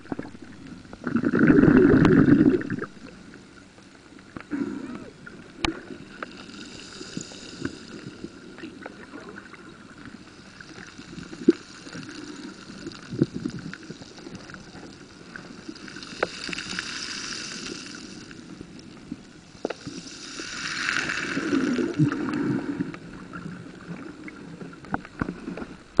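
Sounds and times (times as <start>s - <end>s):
underwater sloshing and gurgling: 0.0s - 26.0s.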